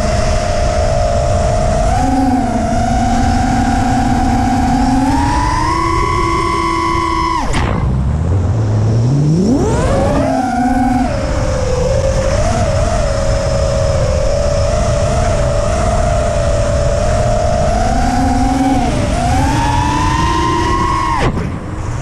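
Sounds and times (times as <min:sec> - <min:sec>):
quadcopter motors whining: 0:00.0 - 0:07.6, 0:09.1 - 0:22.0.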